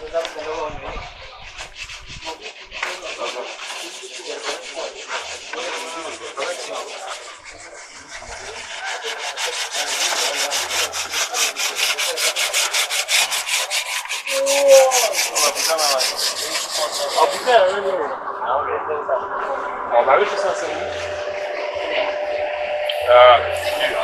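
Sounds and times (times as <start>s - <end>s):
rapid rasping strokes: 0.0s - 24.0s.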